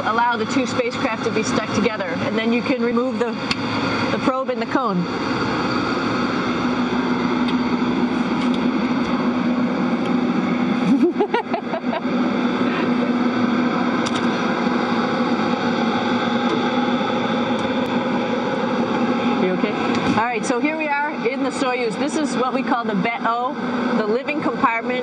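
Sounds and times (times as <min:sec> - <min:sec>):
ventilation fans humming: 0:00.0 - 0:25.0.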